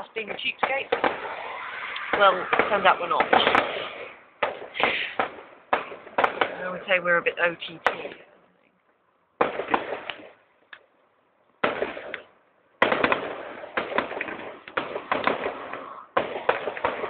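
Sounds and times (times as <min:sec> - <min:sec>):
fireworks bangs and crackling: 0:00.0 - 0:08.3, 0:09.4 - 0:10.5, 0:11.6 - 0:17.0.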